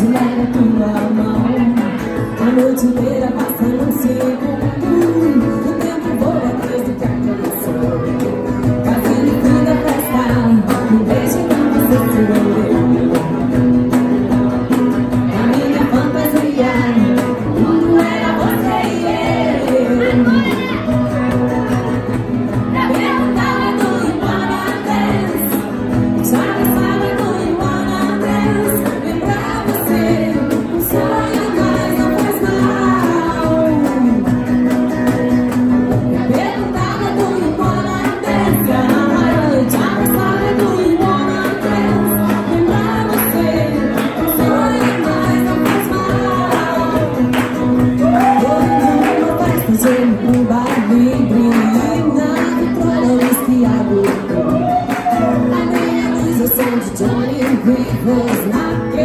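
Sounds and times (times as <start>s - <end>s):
pop-rock band playing: 0.0s - 59.0s
woman singing: 0.0s - 59.0s.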